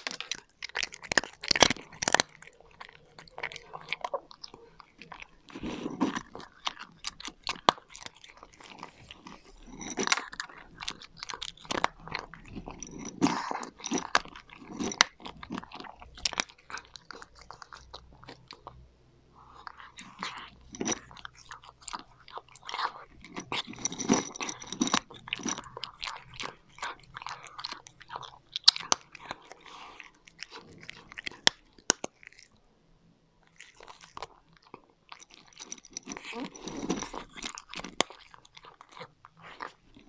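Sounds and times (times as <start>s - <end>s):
cat crunching dry kibble: 0.0s - 18.8s, 19.4s - 32.6s, 33.4s - 40.0s.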